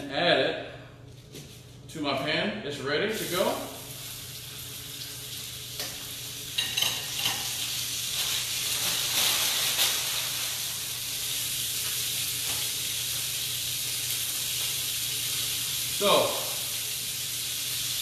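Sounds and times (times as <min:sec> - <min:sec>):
chicken sizzling in skillet: 0:03.2 - 0:18.0.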